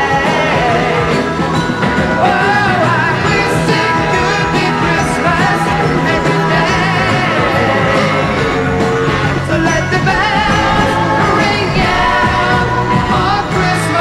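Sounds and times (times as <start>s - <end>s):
song with singing and band: 0.0s - 14.0s.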